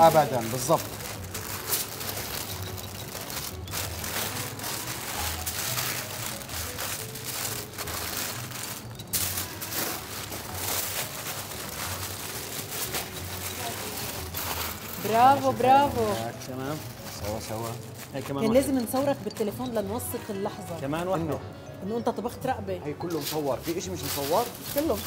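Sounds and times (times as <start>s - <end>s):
baking paper and foil crinkling: 0.0s - 19.6s, 23.1s - 25.0s
background music with low beat: 0.0s - 25.0s.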